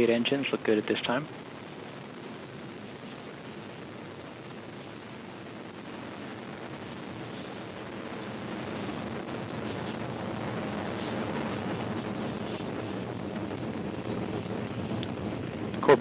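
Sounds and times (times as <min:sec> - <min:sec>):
rocket engines rushing and crackling: 0:00.0 - 0:16.0.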